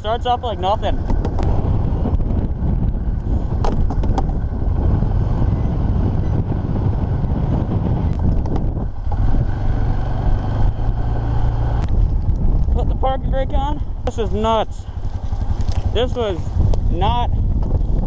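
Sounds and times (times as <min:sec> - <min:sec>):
atv engine running: 0:00.0 - 0:18.0
wind buffeting microphone: 0:00.0 - 0:18.0.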